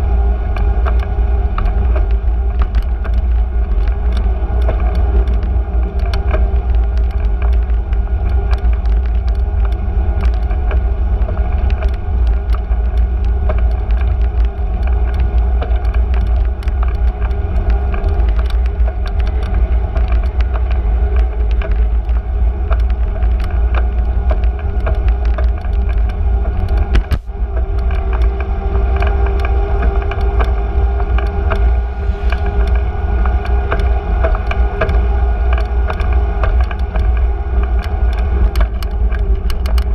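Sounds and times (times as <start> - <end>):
bicycle rattles and ticks: 0.0 - 39.9
continuous hum: 0.0 - 39.9
wind rumble on microphone: 0.0 - 39.9.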